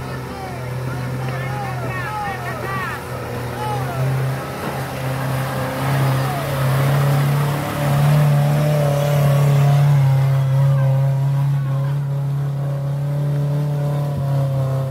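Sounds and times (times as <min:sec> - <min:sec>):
suv engine under load: 0:00.0 - 0:14.9.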